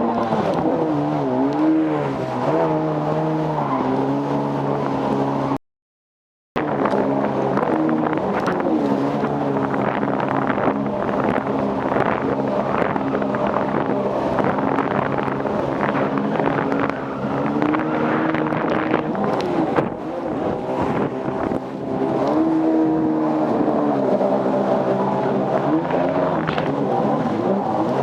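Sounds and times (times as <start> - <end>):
jet ski engine running: 0.0 - 5.6, 6.6 - 28.0
water rushing: 0.0 - 5.6, 6.6 - 28.0.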